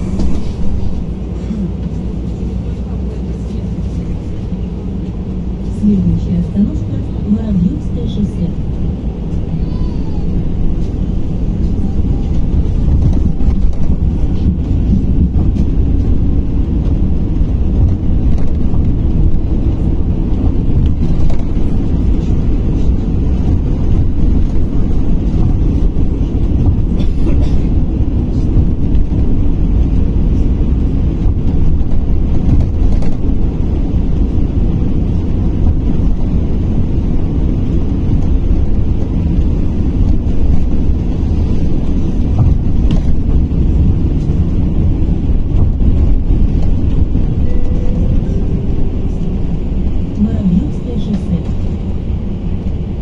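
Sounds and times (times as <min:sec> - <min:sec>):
tyre and road rumble: 0:00.0 - 0:53.0.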